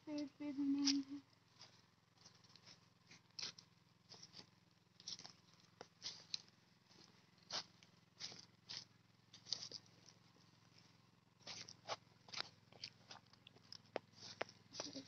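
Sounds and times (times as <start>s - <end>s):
steady low hum: 0.0s - 15.0s
footsteps on dry leaves: 1.5s - 10.8s, 11.4s - 15.0s.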